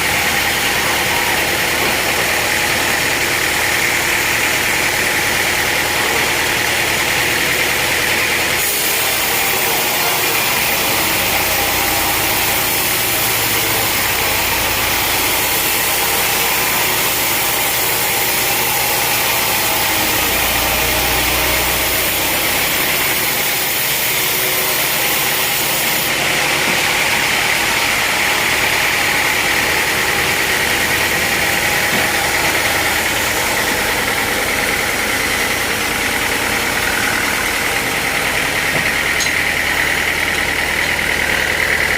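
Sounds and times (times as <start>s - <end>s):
sawmill machinery droning: 0.0s - 41.9s.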